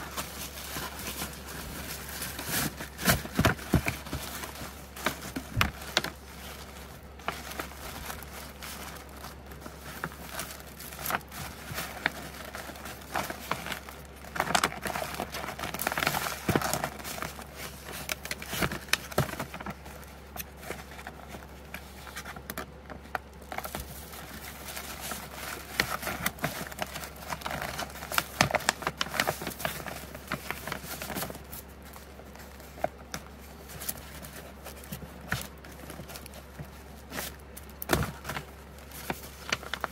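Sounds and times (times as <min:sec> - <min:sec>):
paper envelope rustling: 0:00.0 - 0:39.9.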